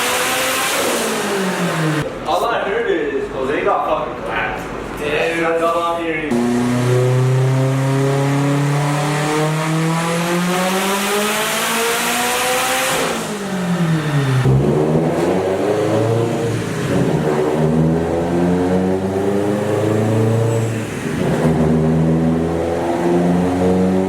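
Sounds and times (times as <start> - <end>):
car engine under full load: 0.0 - 2.2, 6.3 - 24.0.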